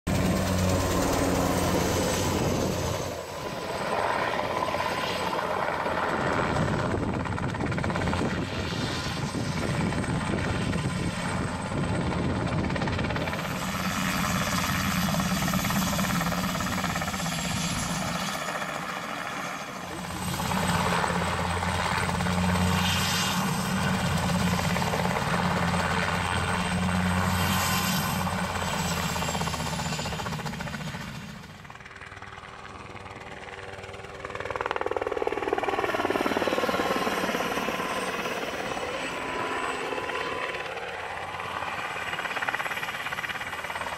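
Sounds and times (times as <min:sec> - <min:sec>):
helicopter rotor and turbine: 0:00.0 - 0:43.9.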